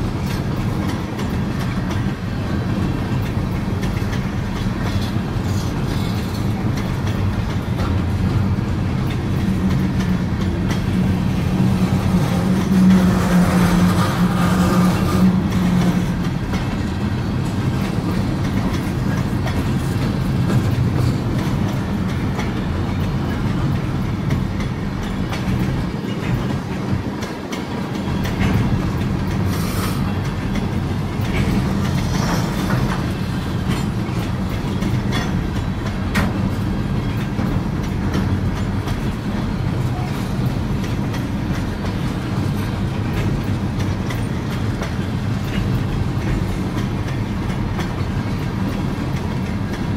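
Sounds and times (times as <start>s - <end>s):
freight train rumbling past: 0.0s - 49.9s
wheels clacking over rail joints: 0.0s - 49.9s.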